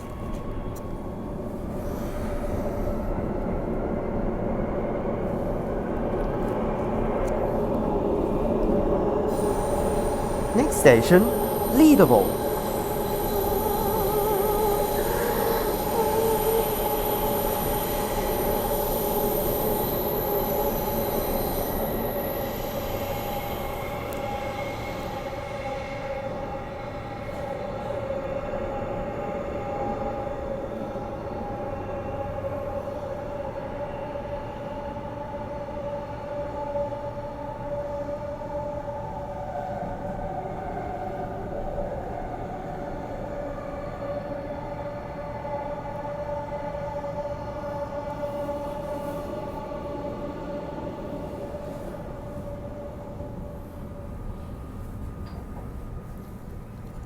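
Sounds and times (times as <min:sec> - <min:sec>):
electric train rumble: 0:00.0 - 0:10.6, 0:11.2 - 0:57.0.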